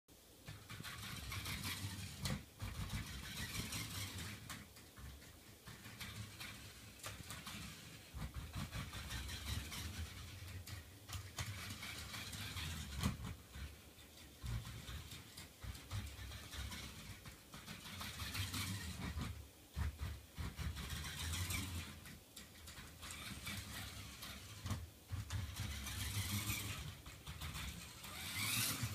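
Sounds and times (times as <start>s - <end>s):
toy car motors humming: 0.4s - 28.9s.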